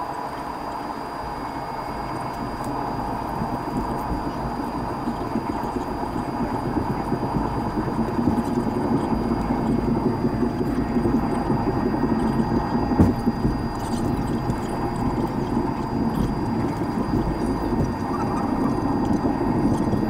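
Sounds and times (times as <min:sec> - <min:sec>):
jet engines humming and whining: 0:00.0 - 0:20.0.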